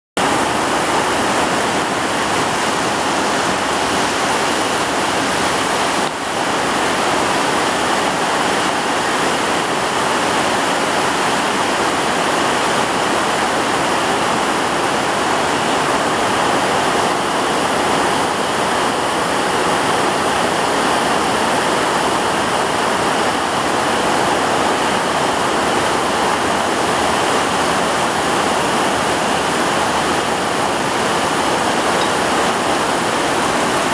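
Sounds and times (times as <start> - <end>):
heavy rain pouring: 0.2 - 33.9.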